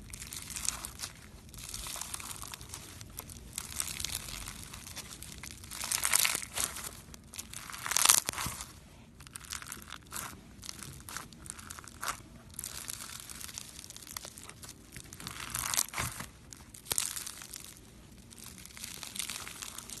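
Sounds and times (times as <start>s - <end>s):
crunchy slime squeezed by hand: 0.0s - 20.0s.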